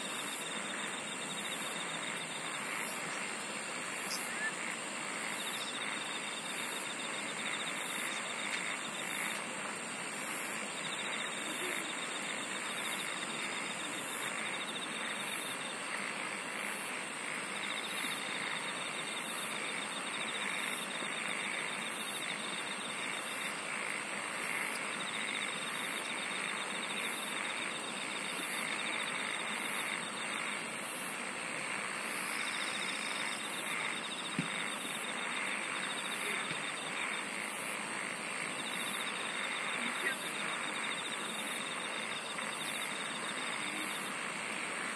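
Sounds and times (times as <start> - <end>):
high insect buzz: 0.0 - 44.9
high insect chirps: 0.0 - 44.9
lower insect trill: 0.0 - 44.9.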